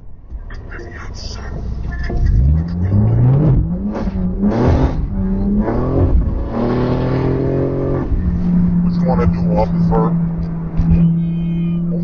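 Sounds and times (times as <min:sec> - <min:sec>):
car engine accelerating: 0:01.4 - 0:12.0.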